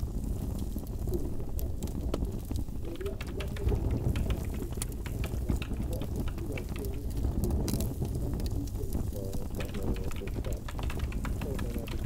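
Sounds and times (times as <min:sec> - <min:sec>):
small irregular clicks and crackles: 0:00.0 - 0:12.0
steady low rumble: 0:00.0 - 0:12.0.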